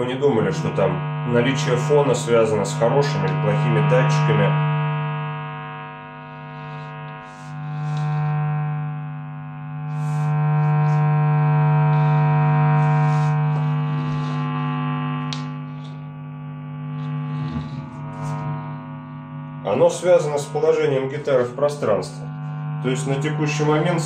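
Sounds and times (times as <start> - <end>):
electric guitar mains hum: 0.0 - 24.0.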